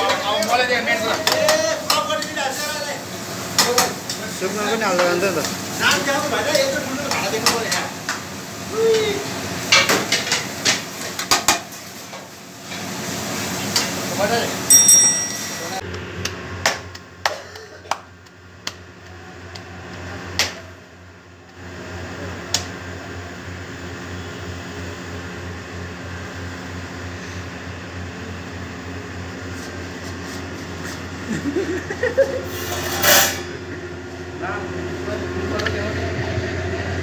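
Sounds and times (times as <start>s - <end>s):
exhaust hood fan hum: 0.0s - 37.0s.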